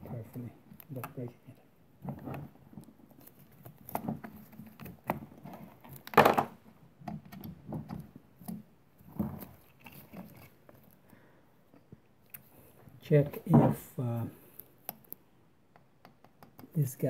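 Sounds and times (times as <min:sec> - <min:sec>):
small clicks and knocks of parts: 0:00.2 - 0:12.6, 0:14.5 - 0:16.8.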